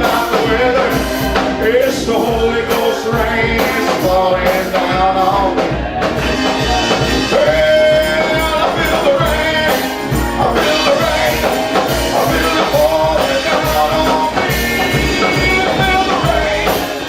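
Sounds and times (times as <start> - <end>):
gospel church band music: 0.0 - 17.0
steady drum beat: 0.0 - 17.0
voices holding sung notes: 0.0 - 17.0.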